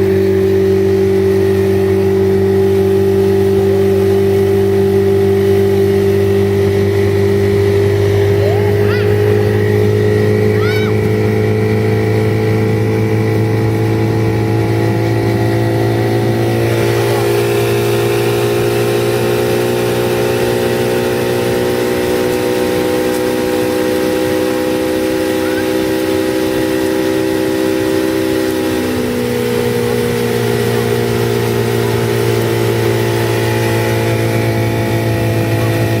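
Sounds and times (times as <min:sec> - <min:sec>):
motorboat engine running: 0:00.0 - 0:36.0.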